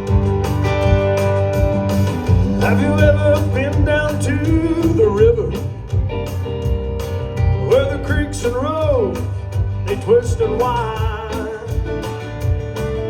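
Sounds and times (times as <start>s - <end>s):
live country-rock band: 0.0s - 13.0s.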